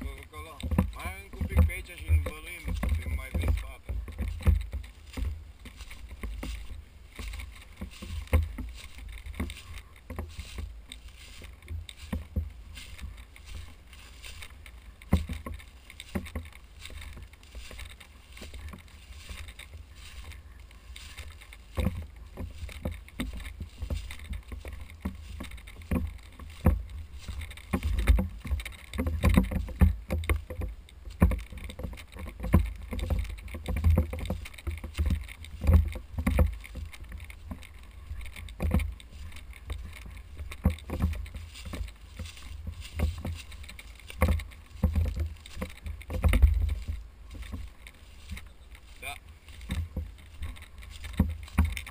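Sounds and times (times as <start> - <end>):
footsteps through dry grass: 0.0 - 51.9.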